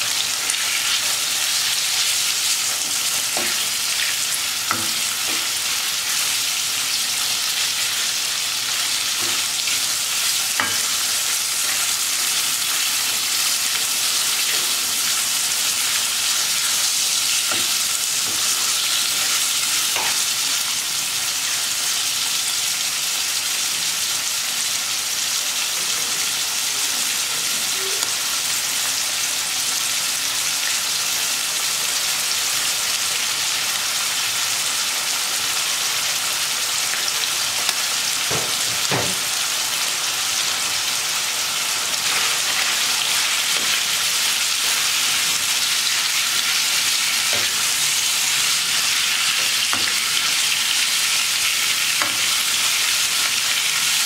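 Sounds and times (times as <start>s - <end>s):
liver sizzling in a pan: 0.0s - 54.0s.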